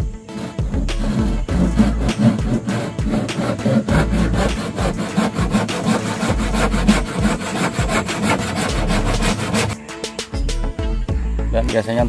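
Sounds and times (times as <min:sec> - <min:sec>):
handsaw cutting wood: 0:00.0 - 0:09.8.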